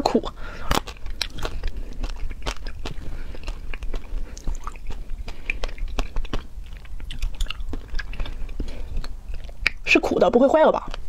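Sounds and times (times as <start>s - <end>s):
close-up chewing: 0.0s - 11.0s
wet mouth clicks: 0.2s - 9.9s.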